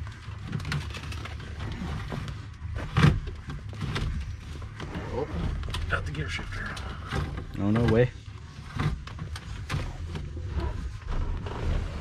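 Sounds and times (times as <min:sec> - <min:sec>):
small clicks and rustles: 0:00.0 - 0:12.0.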